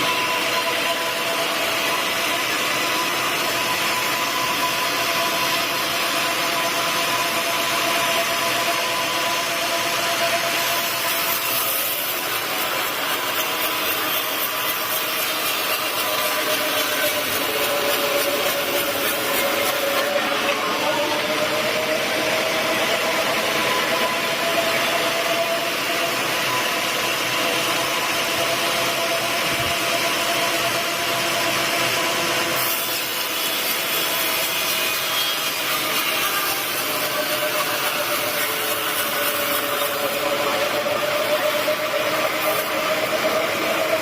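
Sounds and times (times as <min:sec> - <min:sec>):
saw blade whine: 0:00.0 - 0:44.0
saw rasping through log: 0:00.0 - 0:44.0.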